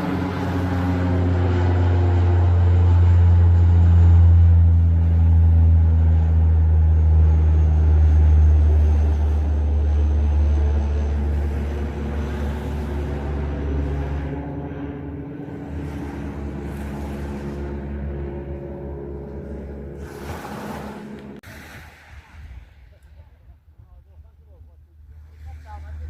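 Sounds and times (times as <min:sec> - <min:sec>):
low-flying aircraft drone: 0:00.0 - 0:26.0.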